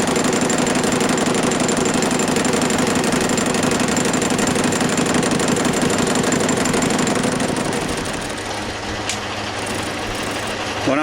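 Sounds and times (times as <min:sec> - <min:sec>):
lathe tool knocking on work: 0:00.0 - 0:08.8, 0:09.6 - 0:10.6
lathe humming: 0:00.0 - 0:10.8.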